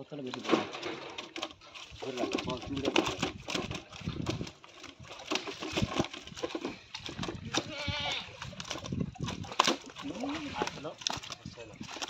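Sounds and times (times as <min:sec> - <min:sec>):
fish flapping in plastic basket: 0:00.3 - 0:12.0.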